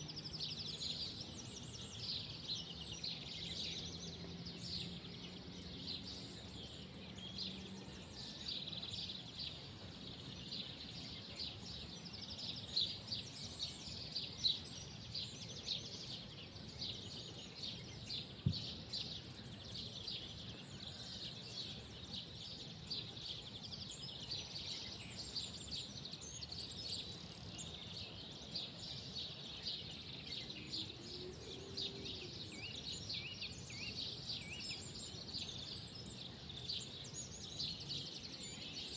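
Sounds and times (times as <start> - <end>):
faint background noise: 0.0 - 38.9
small birds chirping: 0.0 - 38.9.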